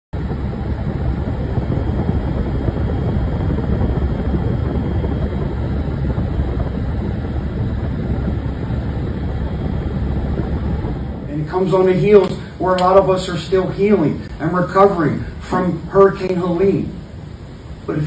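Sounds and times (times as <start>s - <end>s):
vehicle engine rumble: 0.2s - 14.6s.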